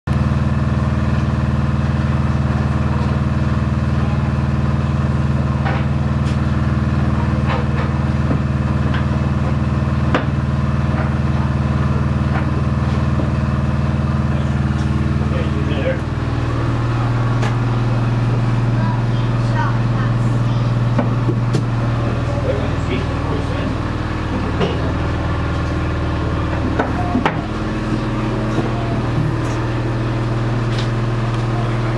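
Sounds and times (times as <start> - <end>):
loud machinery hum: 0.1 - 31.9.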